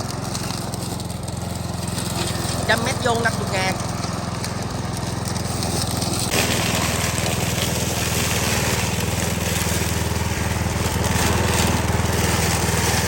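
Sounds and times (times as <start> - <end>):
grass cutter engine running: 0.0 - 13.0
harsh hiss of cutting grass: 0.0 - 13.0.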